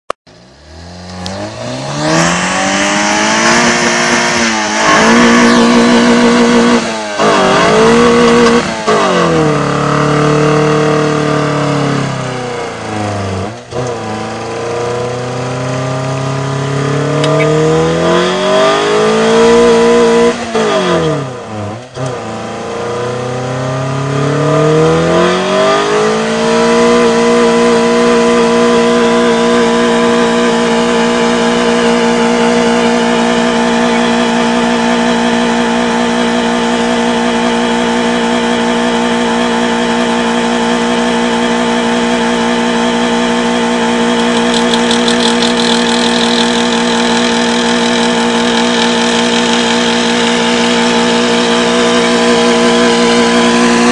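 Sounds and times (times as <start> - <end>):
car engine revving: 0.3 - 53.9
spinning tyres hissing: 0.3 - 53.9.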